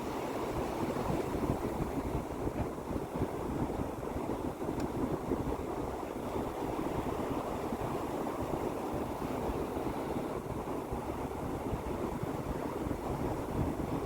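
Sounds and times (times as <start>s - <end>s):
surf washing: 0.0s - 14.0s.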